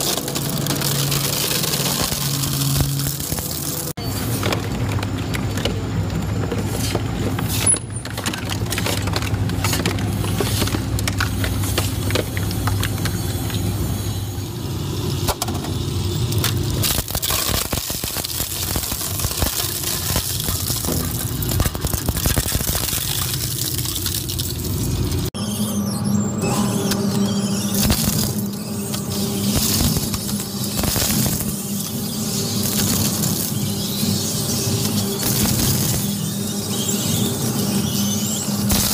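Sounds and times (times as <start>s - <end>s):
blades crunching plastic and metal: 0.0s - 13.2s, 16.4s - 25.3s, 27.7s - 36.7s, 38.6s - 38.9s.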